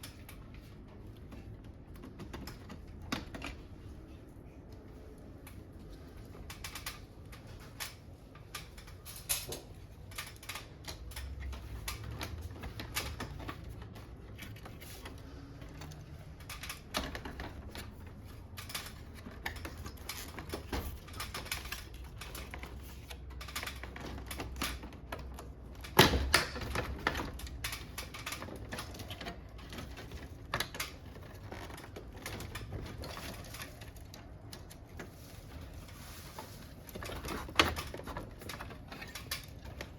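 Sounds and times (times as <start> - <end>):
plastic parts and tools clicking: 0.0 - 39.9.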